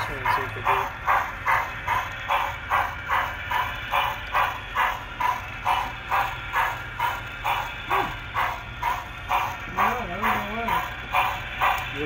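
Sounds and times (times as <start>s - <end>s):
steam locomotive chuffing: 0.0s - 12.0s.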